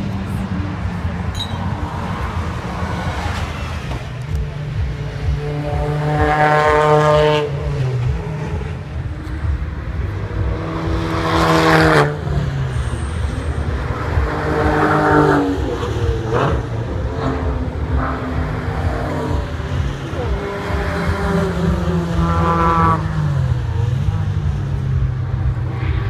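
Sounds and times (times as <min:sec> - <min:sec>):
low engine rumble: 0:00.0 - 0:26.0
racing car engines accelerating: 0:00.0 - 0:26.0.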